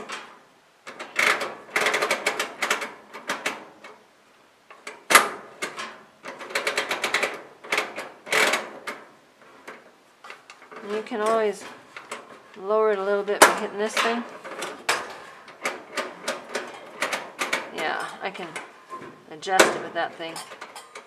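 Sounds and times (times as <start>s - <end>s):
metal clicking and rattling: 0.0s - 4.0s, 4.7s - 21.0s.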